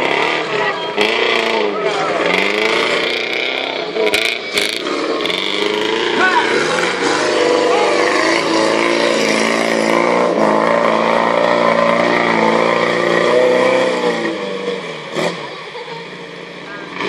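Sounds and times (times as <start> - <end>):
vehicle engine revving hard: 0.0 - 17.0.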